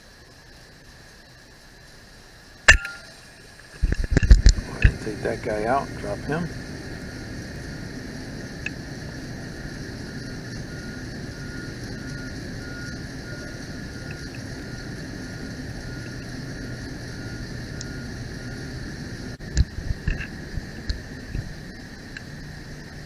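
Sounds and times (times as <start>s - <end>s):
faint high whine: 0.0s - 23.0s
low mechanical hum: 0.0s - 23.0s.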